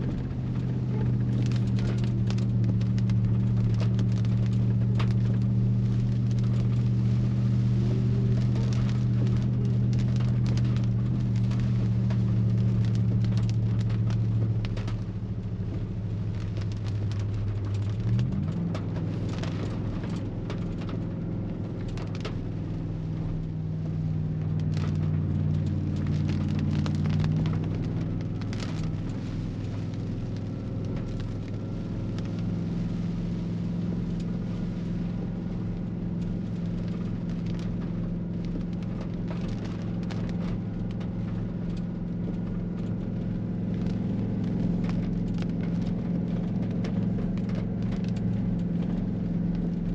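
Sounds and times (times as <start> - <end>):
light clicks and crackles: 0.0 - 49.9
vehicle engine droning: 0.0 - 49.9.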